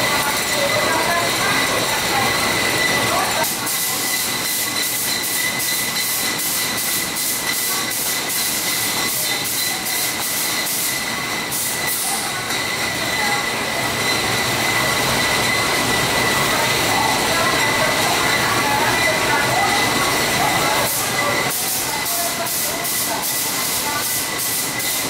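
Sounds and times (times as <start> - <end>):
machinery whining: 0.0 - 25.0.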